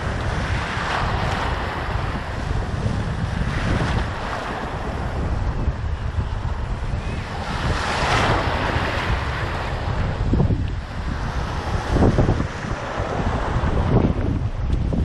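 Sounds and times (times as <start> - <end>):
surf washing onto sandy beach: 0.0 - 15.0
wind buffeting microphone: 0.0 - 15.0.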